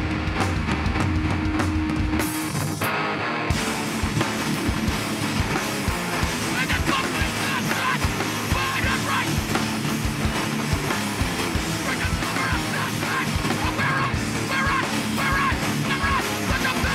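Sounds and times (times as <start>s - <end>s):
distorted electric guitars: 0.0s - 16.9s
drum kit: 0.0s - 16.9s.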